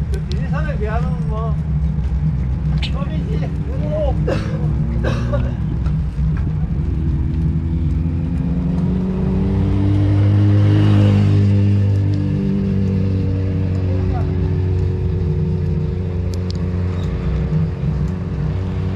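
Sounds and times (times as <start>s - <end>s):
vehicle engine passing: 0.0s - 18.9s
wind rumble on microphone: 0.0s - 18.9s.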